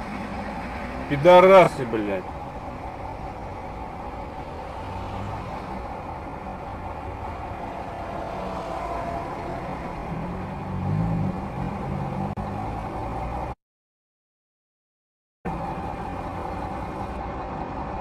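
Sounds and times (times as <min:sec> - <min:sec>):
car engine idling: 0:00.0 - 0:13.5, 0:15.5 - 0:18.0.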